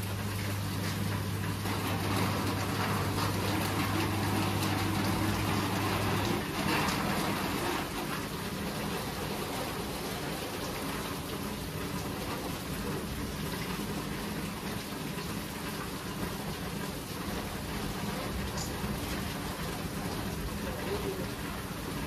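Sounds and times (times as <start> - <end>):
dense rain falling: 0.0 - 22.0.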